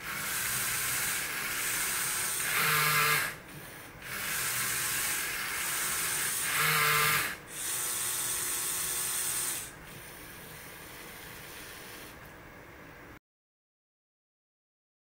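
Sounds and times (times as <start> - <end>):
motors and gears whirring: 0.0 - 12.4.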